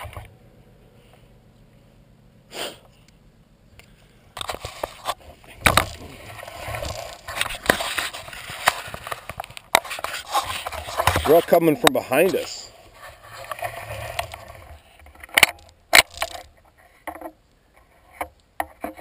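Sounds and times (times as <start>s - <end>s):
rustling and scraping handling noise: 3.7s - 19.0s.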